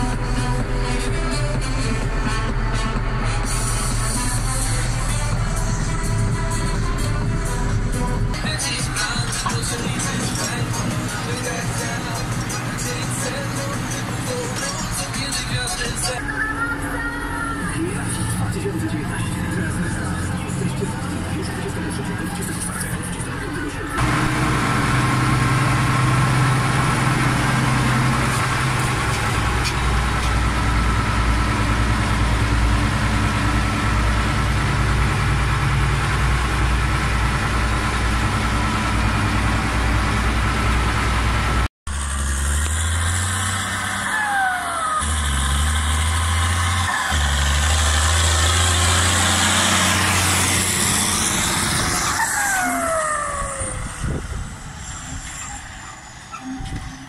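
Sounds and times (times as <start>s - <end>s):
low machine drone: 0.0s - 57.0s
tractor engine running: 0.0s - 57.0s.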